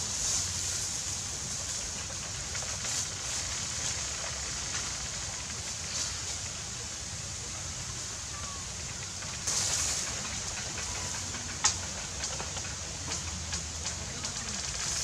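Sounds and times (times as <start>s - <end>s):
dry leaves rustling under hand: 0.0s - 15.0s
leaves crackling: 0.0s - 15.0s.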